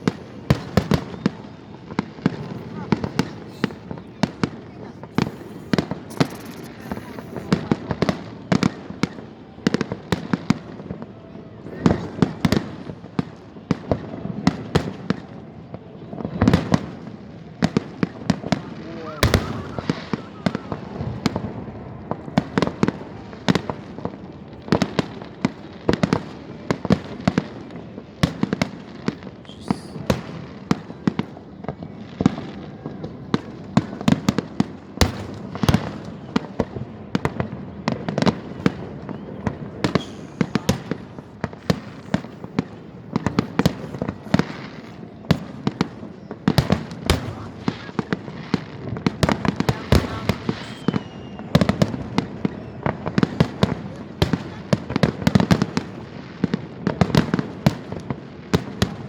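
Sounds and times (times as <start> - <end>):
fireworks bursting with sharp bangs: 0.0 - 59.0.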